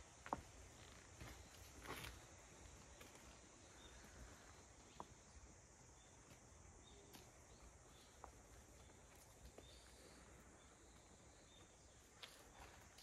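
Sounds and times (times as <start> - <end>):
insect hum: 0.0 - 13.0
light chirps: 0.0 - 13.0.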